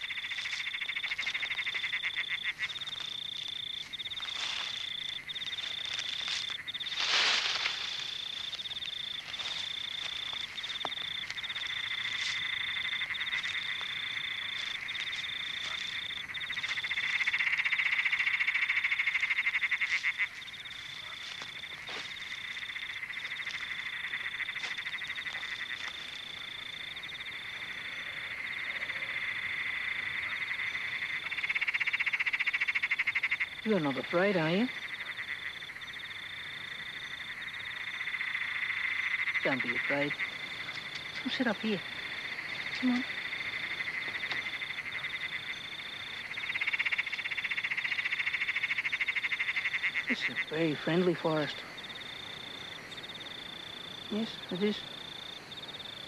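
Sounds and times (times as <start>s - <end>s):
frogs calling in a chorus: 0.0s - 56.0s.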